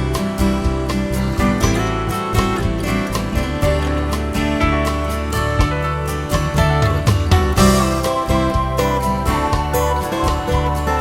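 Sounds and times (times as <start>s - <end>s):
country music with acoustic guitar: 0.0s - 11.0s.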